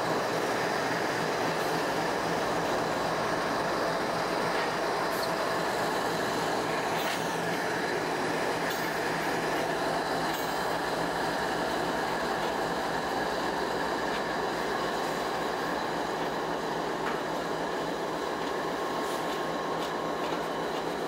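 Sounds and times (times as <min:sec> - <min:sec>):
diesel locomotives idling: 0:00.0 - 0:21.0.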